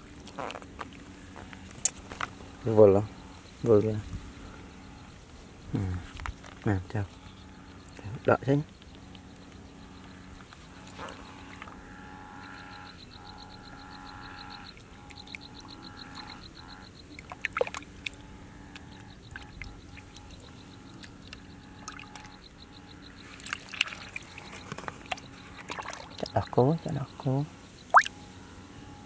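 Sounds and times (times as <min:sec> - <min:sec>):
frogs calling: 0:00.0 - 0:29.0
insects: 0:00.0 - 0:29.0.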